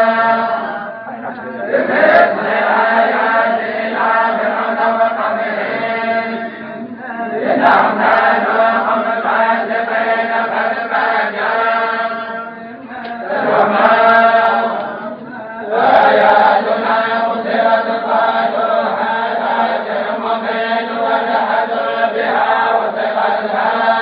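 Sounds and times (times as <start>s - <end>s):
group chanting in unison: 0.0s - 24.0s.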